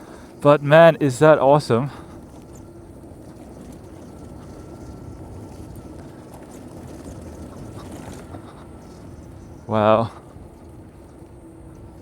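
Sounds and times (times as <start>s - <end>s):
faint thin electric whine: 0.0s - 12.0s
rumble of tyres and wind: 0.0s - 12.0s.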